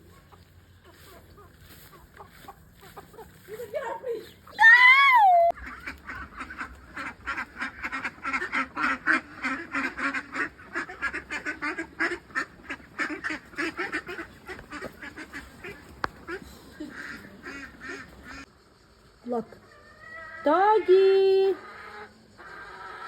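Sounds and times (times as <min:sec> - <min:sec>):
waterfowl quacking and honking: 0:00.0 - 0:04.6, 0:05.4 - 0:18.5, 0:20.0 - 0:23.0.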